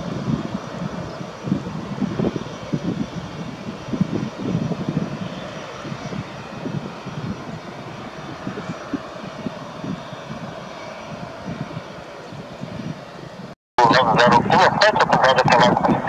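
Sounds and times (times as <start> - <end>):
jet engines rumbling with whine: 0.0 - 16.0.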